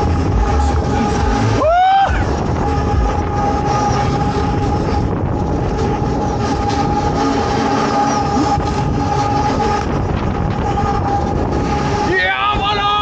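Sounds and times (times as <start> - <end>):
steady whine: 0.0 - 13.0
thrill ride rumble: 0.0 - 13.0
wind rush: 0.0 - 13.0.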